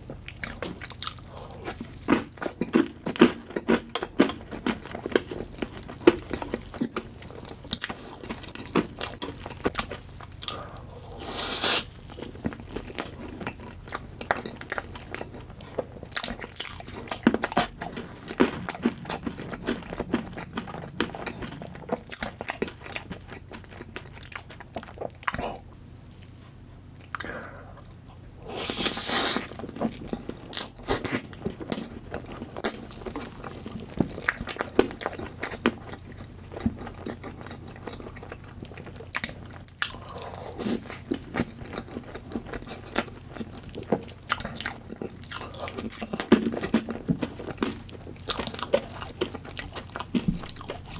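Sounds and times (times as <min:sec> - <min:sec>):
cake being bitten and chewed: 0:00.1 - 0:25.6, 0:27.0 - 0:50.9.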